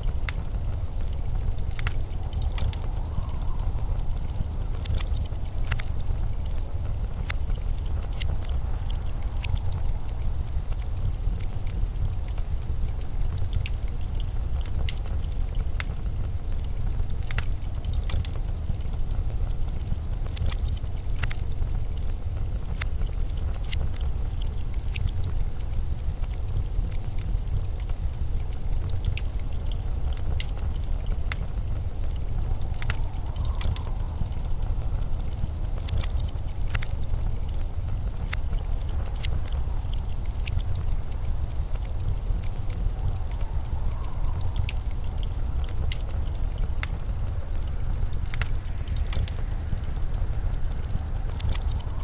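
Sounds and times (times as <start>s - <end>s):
small crackles and ticks: 0.0s - 52.0s
storm wind rumbling: 0.0s - 52.0s.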